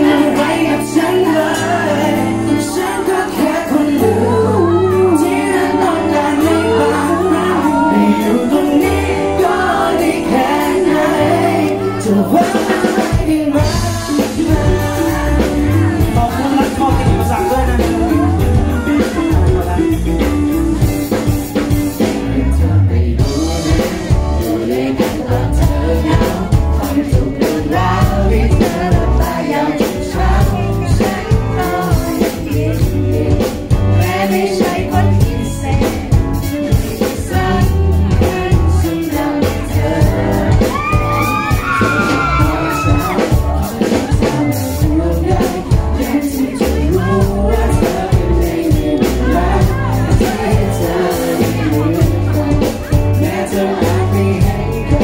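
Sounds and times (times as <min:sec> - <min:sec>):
man singing into a microphone: 0:00.0 - 0:55.0.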